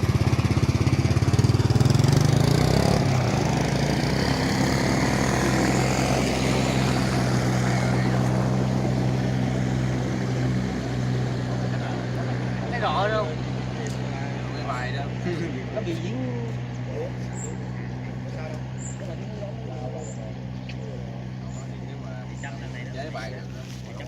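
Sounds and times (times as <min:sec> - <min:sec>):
drone rotors humming: 0:00.0 - 0:24.0.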